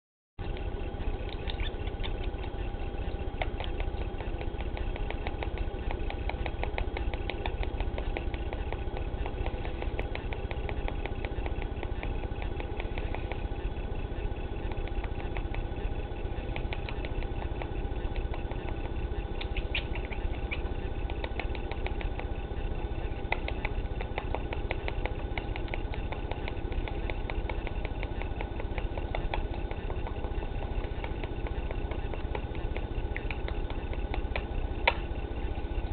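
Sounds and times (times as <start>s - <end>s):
steady low hum: 0.4s - 35.9s
bird beak clicking and nibbling: 0.5s - 35.9s.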